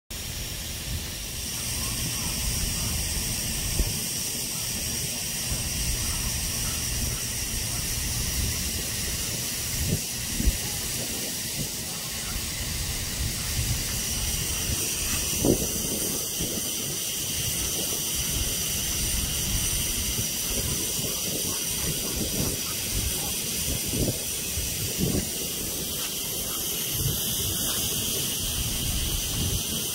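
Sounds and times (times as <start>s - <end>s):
sprinkler spraying hiss: 0.1s - 29.9s.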